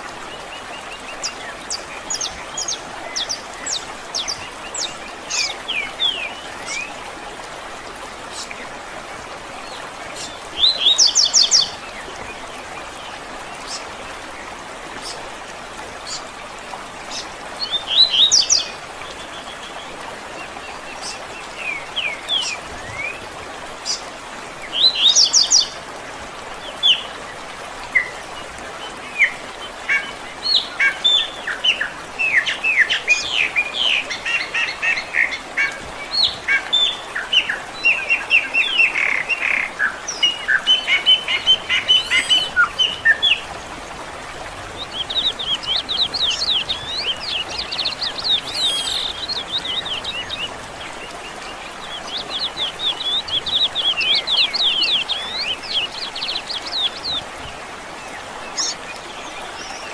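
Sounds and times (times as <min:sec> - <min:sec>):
birdsong chirps and trills: 0:00.3 - 0:07.0, 0:09.6 - 0:15.3, 0:17.1 - 0:25.8, 0:26.5 - 0:59.9.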